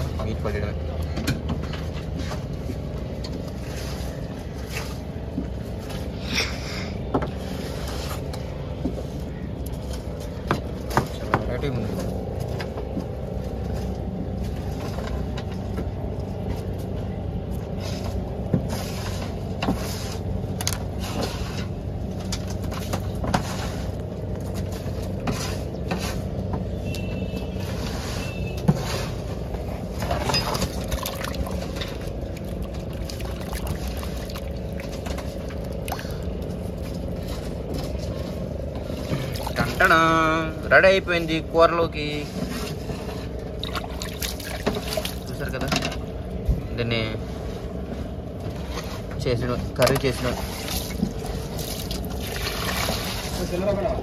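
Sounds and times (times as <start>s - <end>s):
boat engine running: 6.9s - 54.0s.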